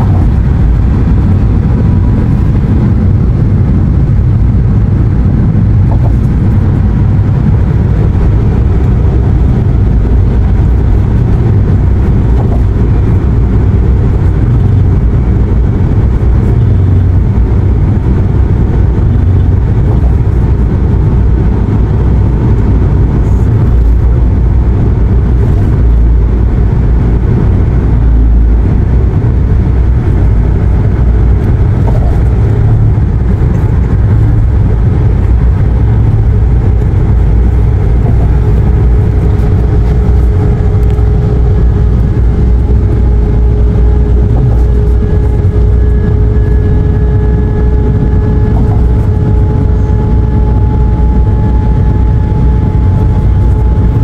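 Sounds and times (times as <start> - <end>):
faint steady whine: 0.0 - 54.0
road and engine rumble: 0.0 - 54.0.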